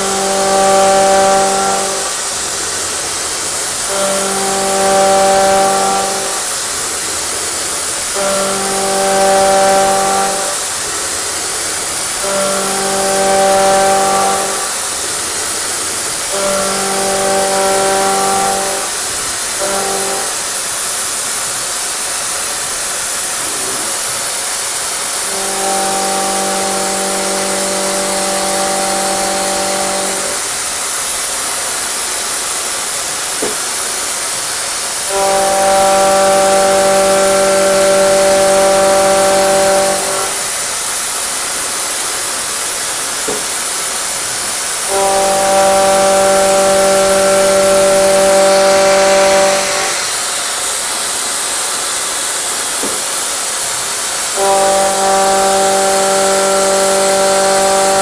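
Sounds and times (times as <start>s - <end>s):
milling machine hiss: 0.0s - 58.0s
pitched cutter hum: 0.0s - 58.0s.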